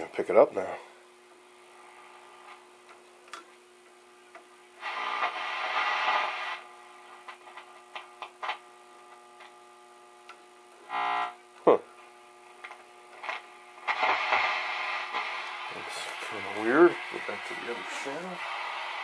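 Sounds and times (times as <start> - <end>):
television static hiss: 0.0 - 19.0.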